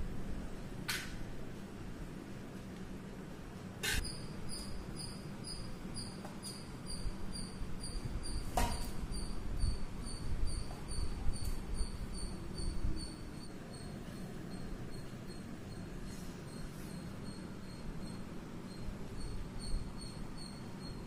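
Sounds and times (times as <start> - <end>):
insect chirping: 4.0 - 21.0.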